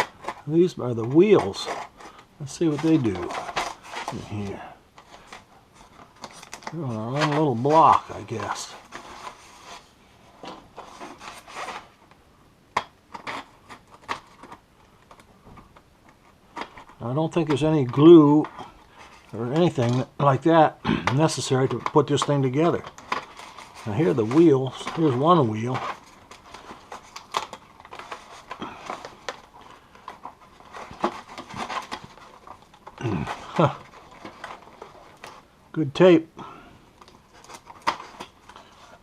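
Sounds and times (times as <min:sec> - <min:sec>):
packing material rustling: 0:00.0 - 0:12.2, 0:13.1 - 0:36.1, 0:36.8 - 0:39.0.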